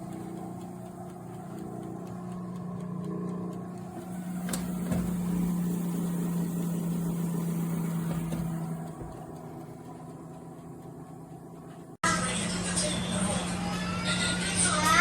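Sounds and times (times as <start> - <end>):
oven fan motor humming: 0.0 - 15.0.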